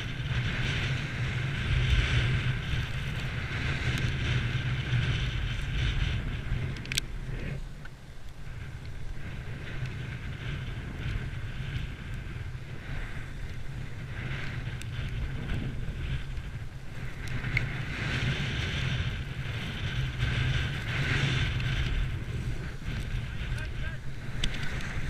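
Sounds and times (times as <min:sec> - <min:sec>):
skis scraping on snow: 0:00.0 - 0:25.0
wind buffeting microphone: 0:00.0 - 0:25.0.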